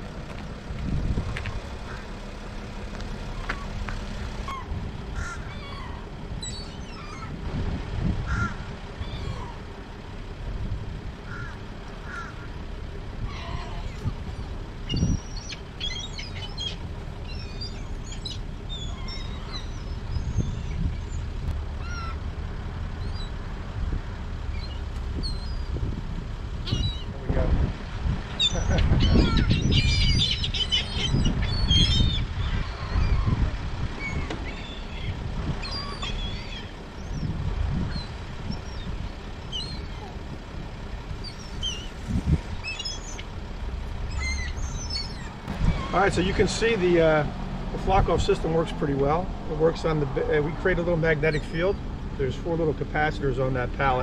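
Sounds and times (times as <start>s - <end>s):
gulls calling: 0.0s - 7.5s, 8.1s - 10.5s, 11.1s - 22.3s, 22.9s - 23.5s, 24.5s - 27.4s, 28.2s - 54.0s
wind rumble on microphone: 0.0s - 54.0s.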